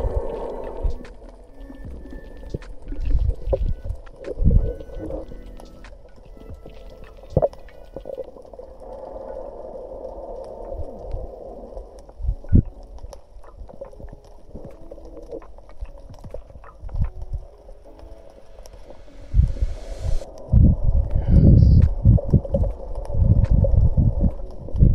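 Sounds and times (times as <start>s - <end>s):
muffled underwater gurgling: 0.0s - 24.9s.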